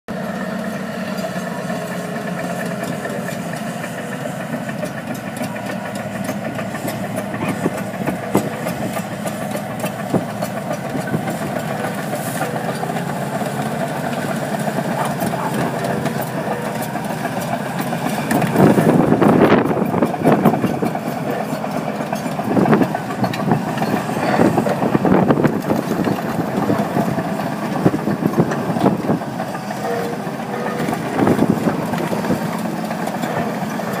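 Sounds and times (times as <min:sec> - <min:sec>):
diesel engine running under load: 0:00.1 - 0:34.0
rough bursts of engine noise: 0:00.1 - 0:34.0.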